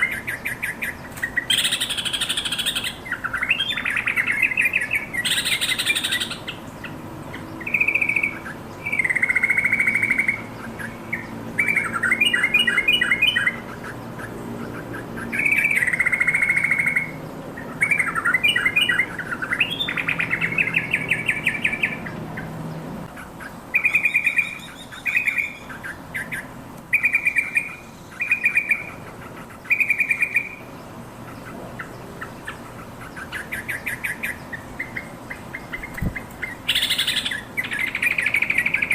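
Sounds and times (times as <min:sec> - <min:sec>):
bird chattering calls: 0:00.0 - 0:38.9.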